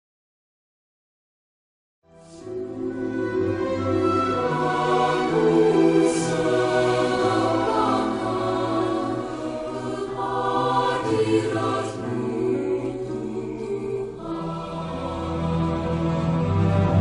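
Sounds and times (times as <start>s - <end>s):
choir singing sustained notes: 2.2s - 17.0s.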